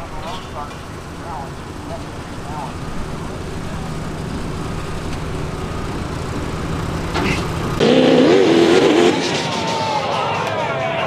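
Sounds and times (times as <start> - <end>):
engine note wavering in pitch: 0.0 - 10.5
engine low rumble: 0.0 - 10.7.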